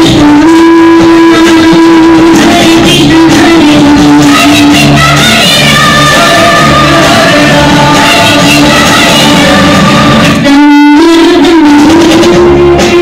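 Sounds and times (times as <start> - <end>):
loud runway music with singing: 0.0 - 13.0.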